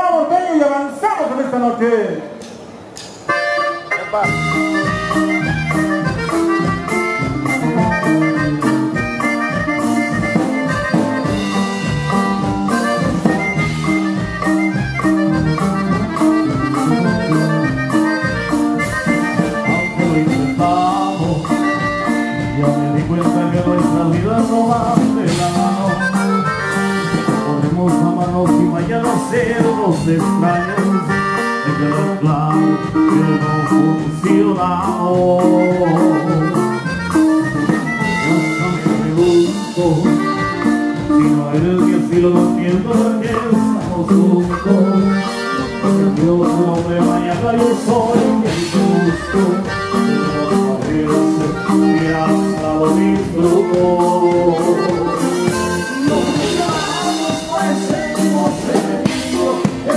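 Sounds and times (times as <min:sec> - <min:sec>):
guitar: 0:00.0 - 0:59.9
drum kit: 0:02.4 - 0:59.9
button accordion: 0:02.8 - 0:59.9
saxophone: 0:03.3 - 0:23.8, 0:24.8 - 0:27.9, 0:29.5 - 0:42.6, 0:43.2 - 0:59.9
electric bass: 0:03.3 - 0:59.9.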